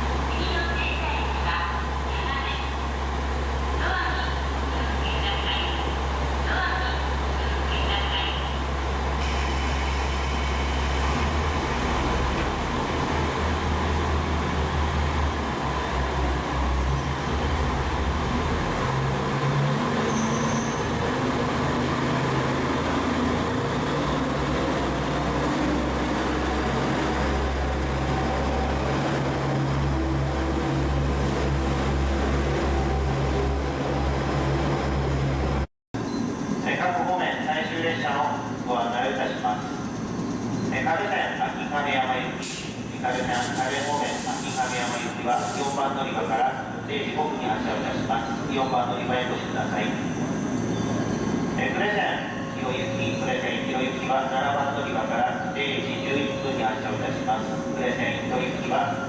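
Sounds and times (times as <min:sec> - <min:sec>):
diesel railcar engine humming: 0:00.0 - 0:36.6, 0:37.6 - 0:59.0.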